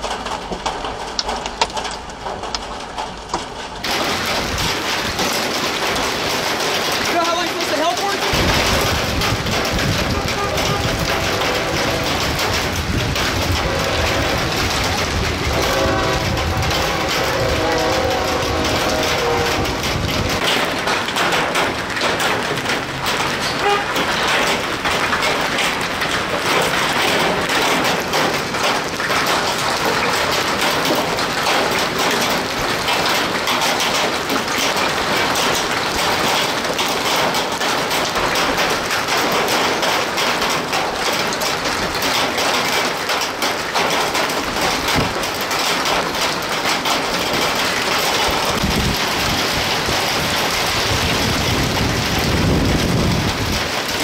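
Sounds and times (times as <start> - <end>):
hail and heavy rain on pavement: 0.0 - 54.0.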